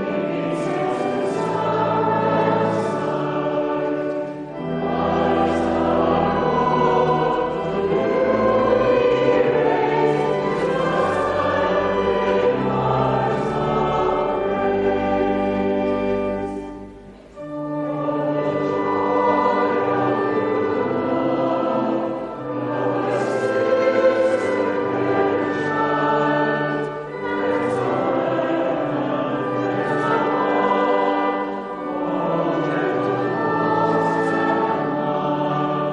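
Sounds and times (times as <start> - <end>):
choir singing: 0.0 - 35.9.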